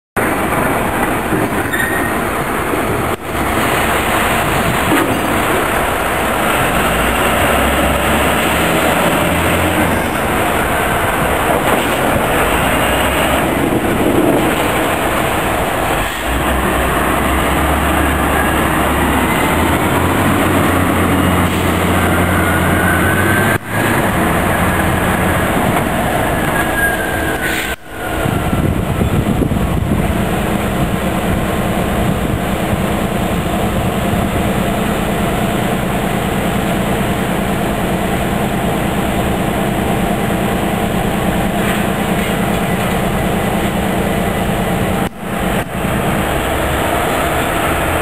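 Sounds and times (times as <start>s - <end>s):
idling diesel locomotives drone: 0.2s - 48.0s.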